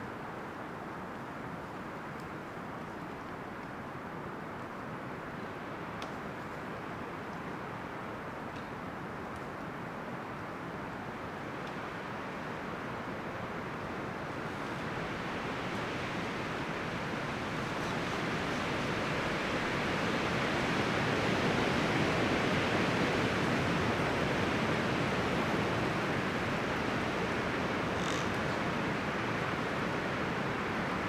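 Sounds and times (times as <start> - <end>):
wind rustling through leaves: 0.2 - 31.0.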